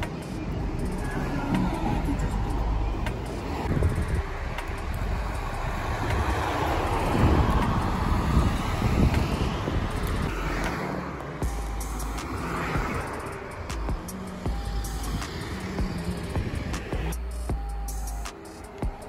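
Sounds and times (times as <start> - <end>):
vehicle passing by: 0.0 - 17.2
road traffic rumble: 0.0 - 19.0.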